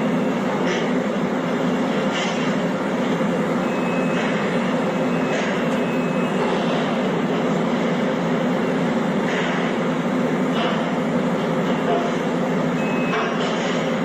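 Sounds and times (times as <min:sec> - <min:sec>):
industrial rumble: 0:00.0 - 0:14.0.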